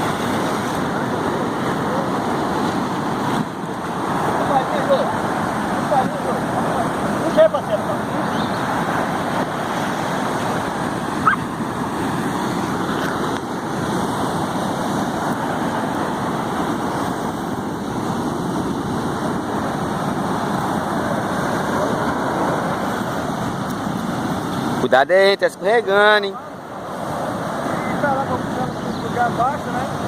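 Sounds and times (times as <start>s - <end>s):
sea waves rushing: 0.0s - 30.0s.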